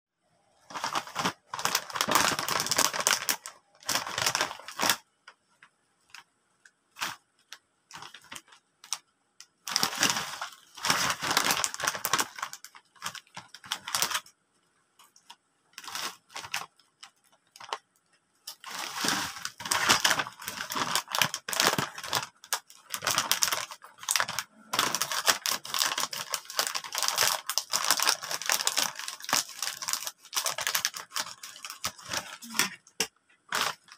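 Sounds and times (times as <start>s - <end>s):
plastic chip bag crinkling: 0.6s - 5.1s, 6.9s - 14.3s, 15.0s - 33.9s.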